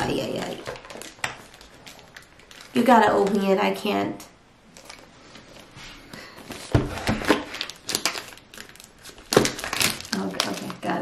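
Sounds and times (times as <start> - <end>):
plastic shrink wrap crinkling: 0.0 - 3.9, 4.6 - 11.0.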